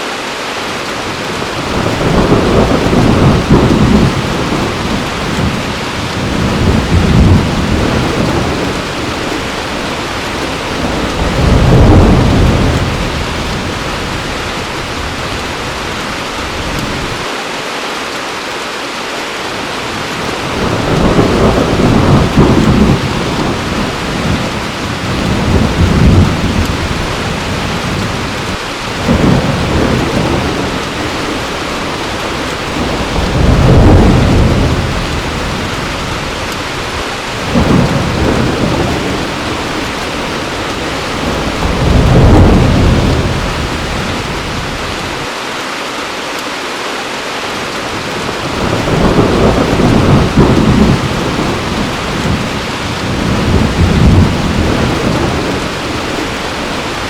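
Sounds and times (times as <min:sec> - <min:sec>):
heavy rain falling: 0:00.0 - 0:57.0
thunder rolling: 0:01.4 - 0:17.2, 0:20.1 - 0:45.3, 0:47.9 - 0:57.0.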